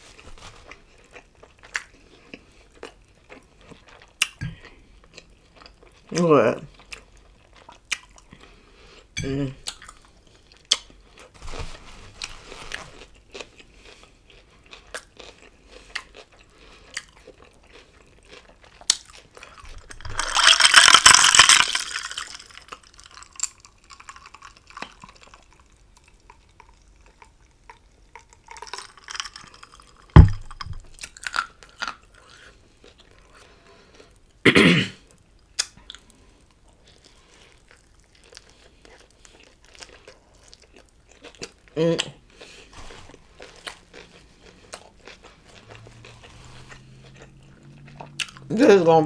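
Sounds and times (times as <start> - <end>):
person chewing and biting: 0.0 - 6.1, 6.7 - 11.3, 12.1 - 34.4, 35.4 - 48.6.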